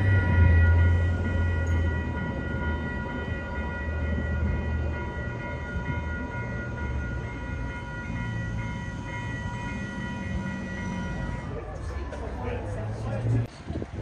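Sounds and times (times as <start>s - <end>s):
crossing warning bells ringing: 0.0s - 13.6s
diesel locomotive engine rumble: 0.0s - 14.0s.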